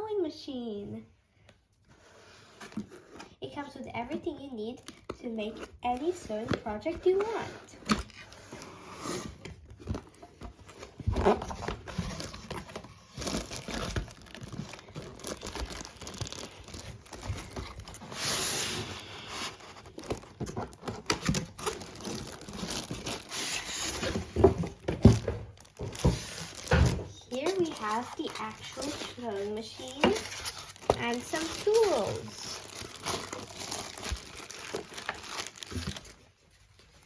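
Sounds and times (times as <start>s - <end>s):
packaging crinkling and rustling: 4.8s - 37.0s.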